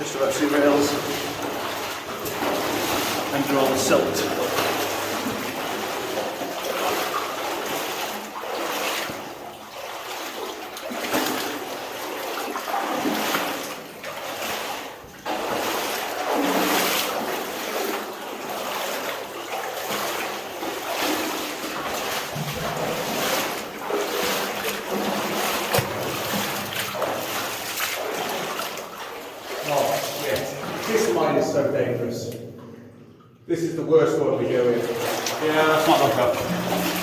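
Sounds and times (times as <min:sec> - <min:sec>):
water sloshing and splashing: 0:00.0 - 0:37.0.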